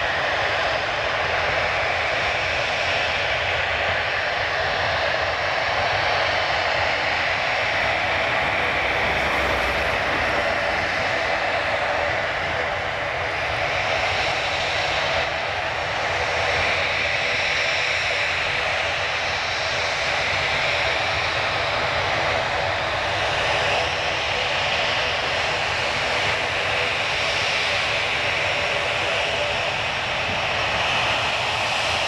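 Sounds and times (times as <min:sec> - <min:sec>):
jet engines at taxi power: 0:00.0 - 0:32.0.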